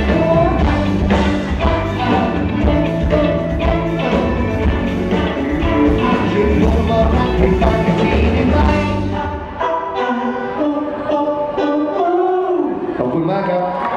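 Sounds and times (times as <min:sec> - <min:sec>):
pop-rock band playing: 0:00.0 - 0:12.6
man singing: 0:00.0 - 0:13.0.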